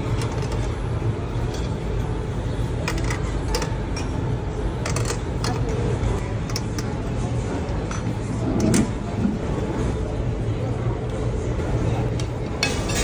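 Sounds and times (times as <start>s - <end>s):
restaurant background murmur: 0.0s - 13.0s.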